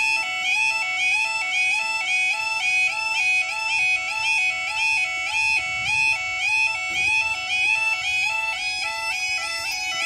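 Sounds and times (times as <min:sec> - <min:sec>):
level crossing alarm warbling: 0:00.0 - 0:10.0.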